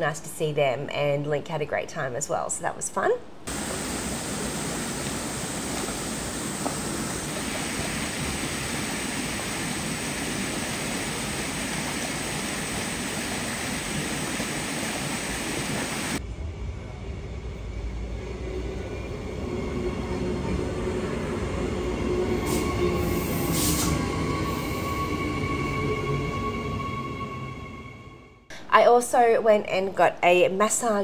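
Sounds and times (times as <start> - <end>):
electric train whine: 3.5 - 28.5
railway platform rumble: 3.5 - 28.5.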